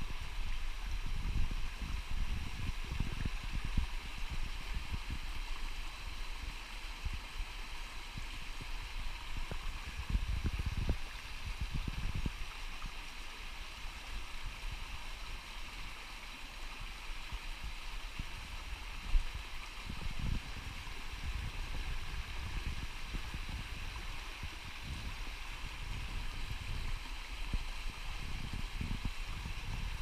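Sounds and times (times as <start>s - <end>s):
stream running over stones: 0.0s - 30.0s.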